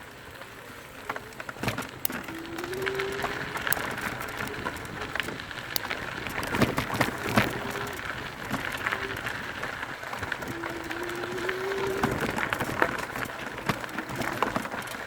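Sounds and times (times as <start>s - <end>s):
bike clicks and rattles: 0.0s - 15.0s
tyres crunching over dirt and stones: 0.1s - 15.0s.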